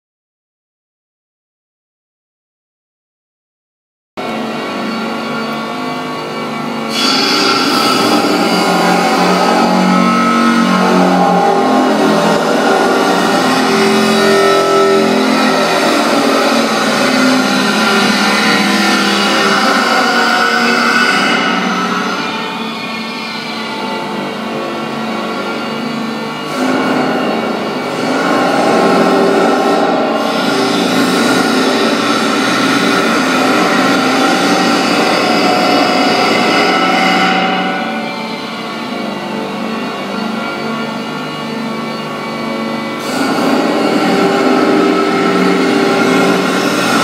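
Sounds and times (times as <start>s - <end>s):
grinder disc grinding metal: 4.2s - 23.0s, 23.6s - 47.0s.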